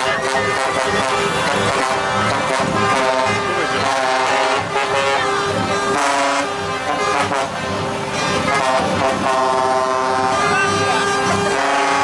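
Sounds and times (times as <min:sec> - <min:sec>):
truck air horn blasts: 0:00.0 - 0:12.0.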